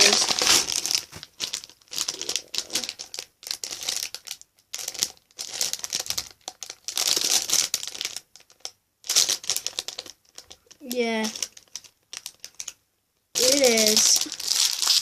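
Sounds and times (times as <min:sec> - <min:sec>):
packaging crinkling and rustling: 0:00.0 - 0:12.8, 0:13.4 - 0:15.0.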